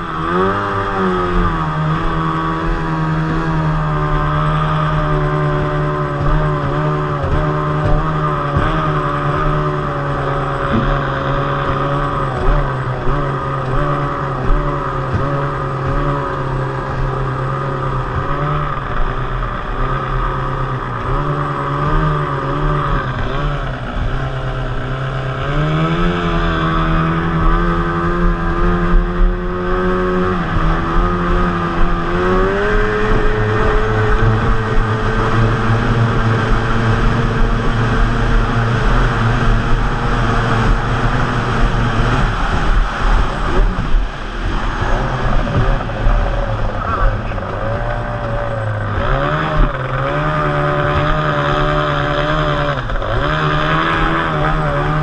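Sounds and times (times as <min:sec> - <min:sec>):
racing outboard engine: 0:00.0 - 0:55.0
water rushing past: 0:00.0 - 0:55.0.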